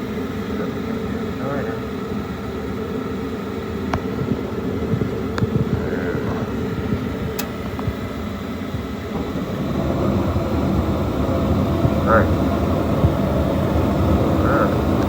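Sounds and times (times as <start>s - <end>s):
furnace blower humming: 0.0s - 15.0s.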